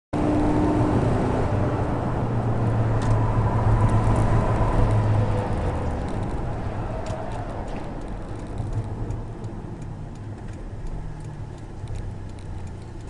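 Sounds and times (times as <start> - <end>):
road noise: 0.2 - 13.0.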